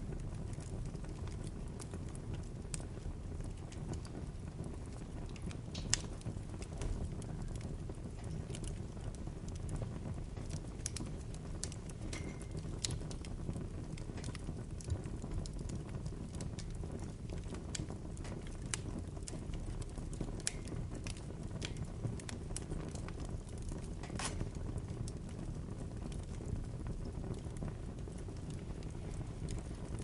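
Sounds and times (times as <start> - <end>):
bonfire crackling: 0.0 - 30.0.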